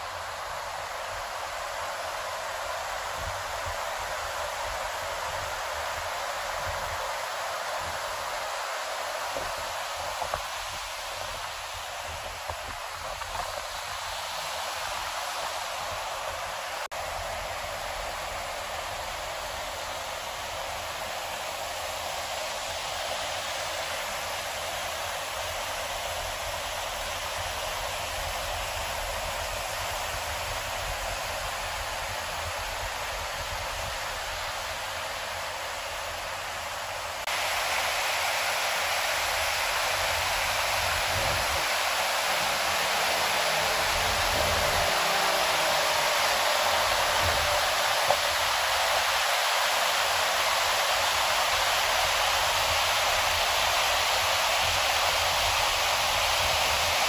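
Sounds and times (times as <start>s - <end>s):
river rapids rushing over rocks: 0.0s - 57.0s.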